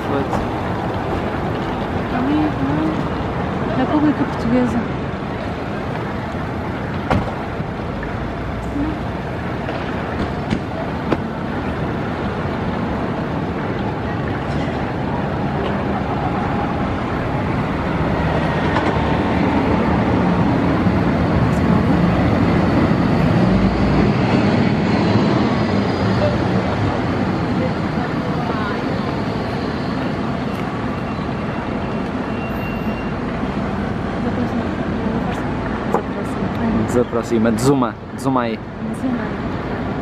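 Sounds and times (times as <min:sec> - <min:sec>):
traffic: 0:00.0 - 0:40.0.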